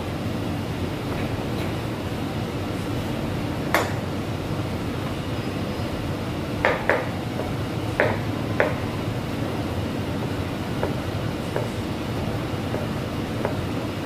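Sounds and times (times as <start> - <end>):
low rumble of kitchen equipment: 0.0 - 14.0.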